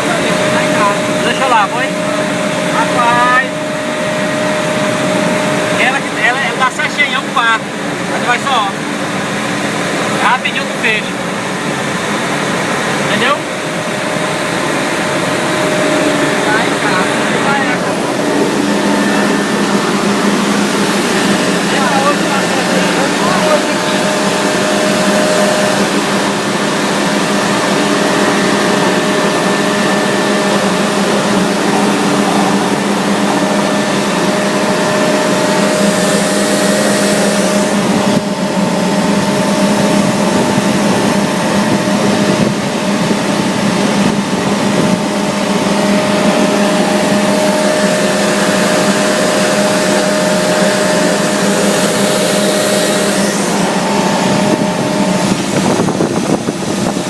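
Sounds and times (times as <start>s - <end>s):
compressed-air machinery drone: 0.0s - 57.0s.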